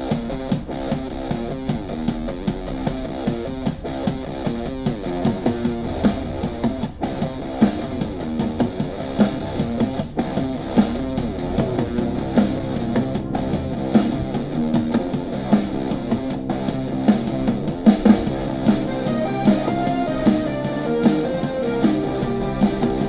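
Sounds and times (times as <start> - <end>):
punk rock with guitar on speaker: 0.0 - 23.0.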